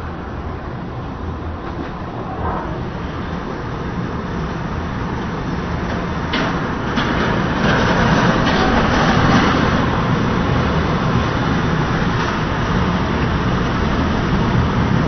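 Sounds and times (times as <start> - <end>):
tornado winds roaring: 0.0 - 15.0.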